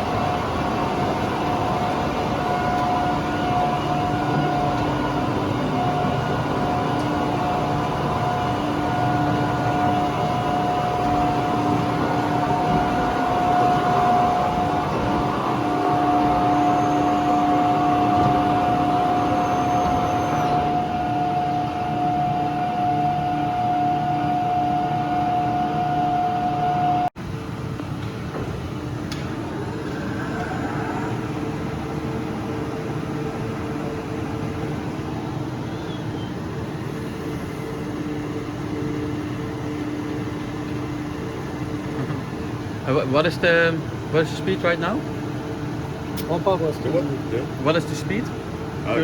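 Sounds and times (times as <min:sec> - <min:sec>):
milling machine whine: 0:00.0 - 0:49.0.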